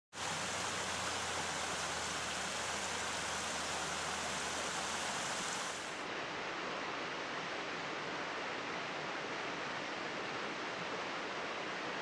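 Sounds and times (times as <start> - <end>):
stream rushing over boulders: 0.1 - 12.0.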